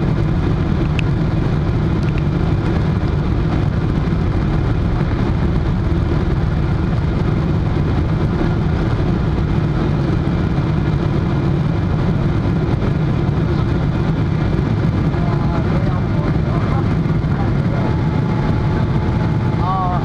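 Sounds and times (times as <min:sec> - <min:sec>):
jet engine cabin noise: 0:00.0 - 0:20.0.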